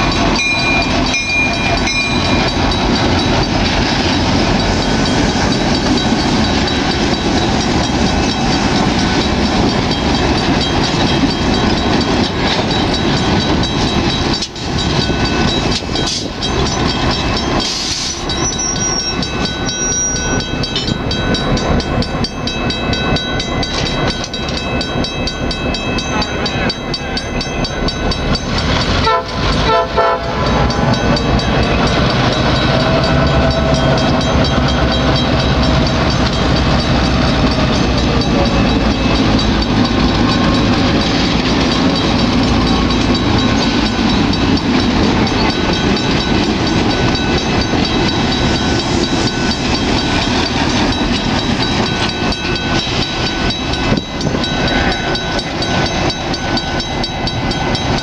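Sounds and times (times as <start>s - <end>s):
diesel locomotive engine: 0.0s - 58.0s
train wheels on rails: 0.0s - 58.0s.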